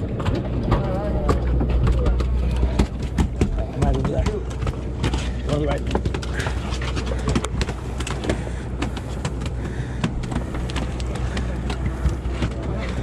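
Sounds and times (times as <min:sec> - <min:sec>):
boat engine running: 0:00.0 - 0:13.0
sharp knocks and clatters: 0:00.0 - 0:13.0.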